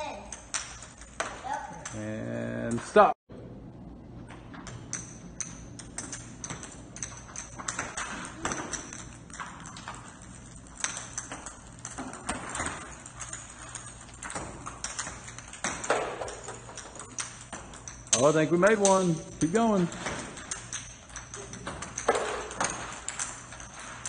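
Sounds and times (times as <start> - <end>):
plastic balls bouncing on tile: 0.0 - 2.1, 4.5 - 24.0.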